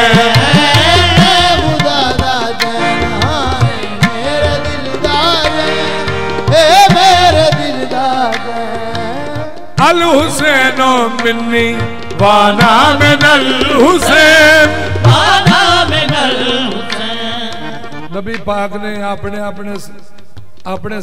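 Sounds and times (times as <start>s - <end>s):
person singing ornamented phrases: 0.0s - 19.2s
harmonium chords: 0.0s - 20.2s
tabla strokes: 0.0s - 21.0s.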